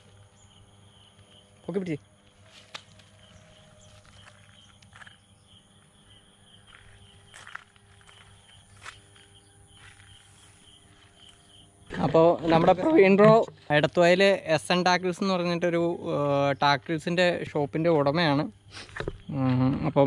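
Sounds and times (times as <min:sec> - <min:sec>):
high-pitched insect trill: 0:00.0 - 0:12.4, 0:13.0 - 0:20.0.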